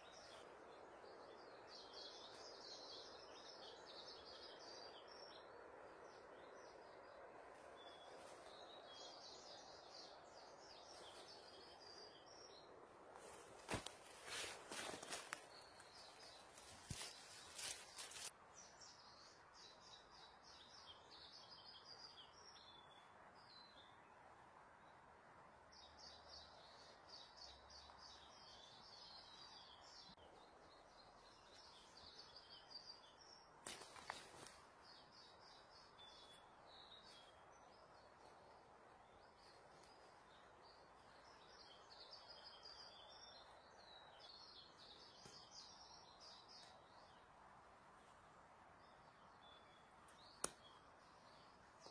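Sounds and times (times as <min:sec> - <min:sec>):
small birds chirping: 0:00.0 - 0:24.2, 0:25.6 - 0:51.9.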